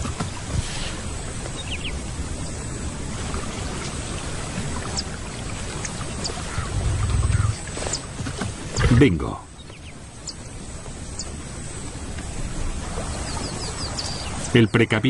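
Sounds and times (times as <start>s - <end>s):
water splashing and sloshing: 0.0s - 9.4s, 10.7s - 14.5s.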